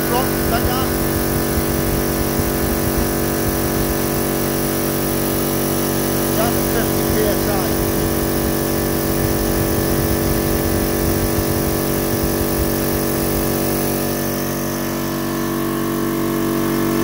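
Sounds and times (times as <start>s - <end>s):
electric air compressor running: 0.0s - 17.0s.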